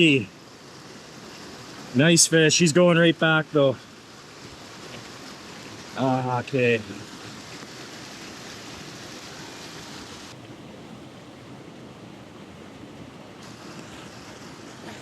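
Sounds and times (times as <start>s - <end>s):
river current over rapids: 0.0s - 15.0s.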